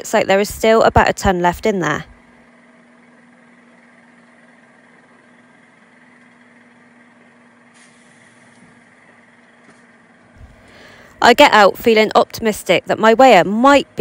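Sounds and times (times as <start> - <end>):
lorry engine idling: 0.0 - 14.0.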